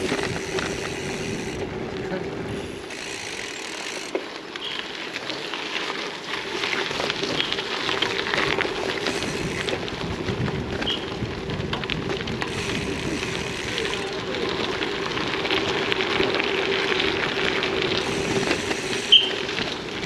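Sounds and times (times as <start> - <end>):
bike tyres crunching on gravel: 0.0 - 20.0.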